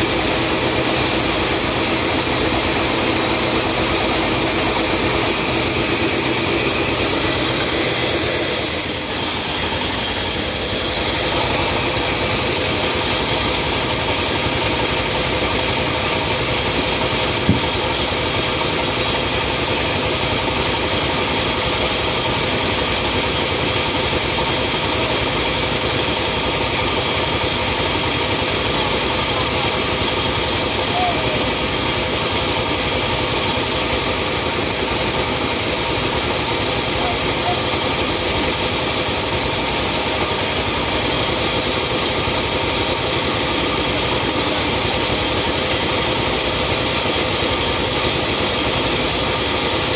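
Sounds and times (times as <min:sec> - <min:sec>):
sawmill machinery drone: 0:00.0 - 0:49.9.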